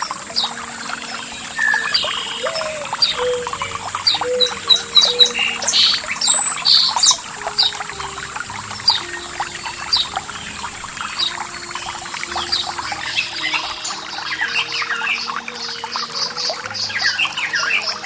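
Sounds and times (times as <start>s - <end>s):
birds chirping: 0.0s - 18.0s
water trickling and splashing: 0.0s - 18.0s.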